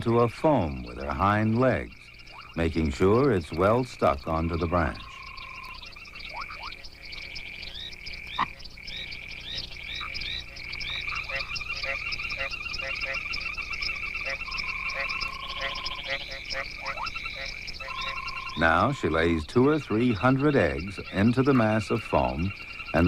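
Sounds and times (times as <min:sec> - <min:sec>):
frogs calling: 0:00.0 - 0:23.0
rapid pulsed frog calls: 0:00.0 - 0:23.0.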